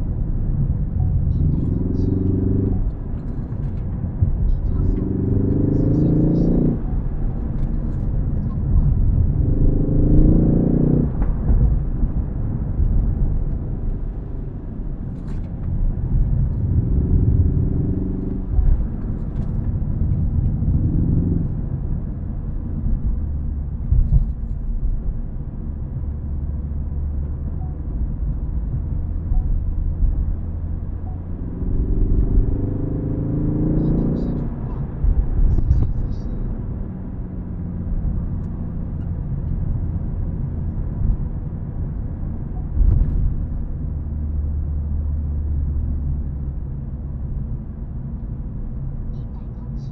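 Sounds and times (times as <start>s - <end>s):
car engine revving: 0.0s - 49.9s
road rumble: 0.0s - 49.9s.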